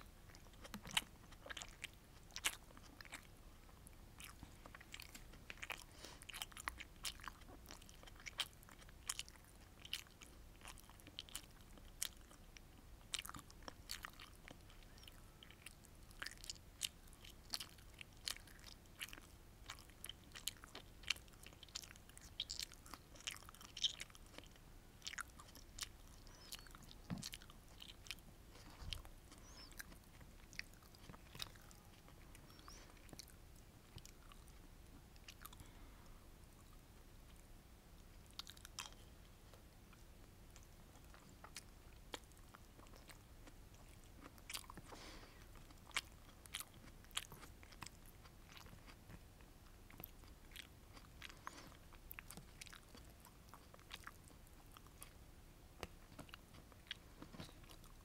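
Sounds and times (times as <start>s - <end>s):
chewing and mouth clicks: 0.1s - 35.8s, 36.5s - 55.2s, 55.8s - 58.0s.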